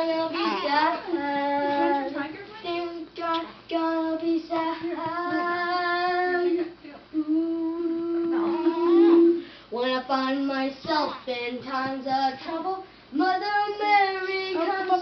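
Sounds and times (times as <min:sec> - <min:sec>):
boy singing solo: 0:00.0 - 0:15.0.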